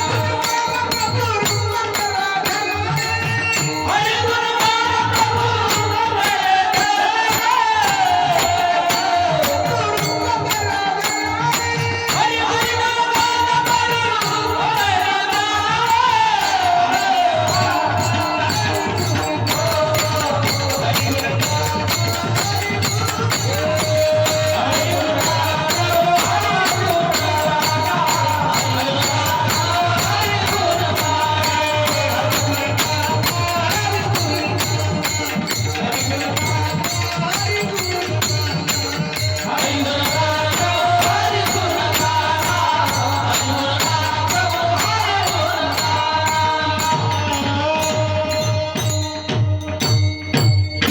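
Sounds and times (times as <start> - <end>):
hand cymbals and drum beat: 0.0 - 50.9.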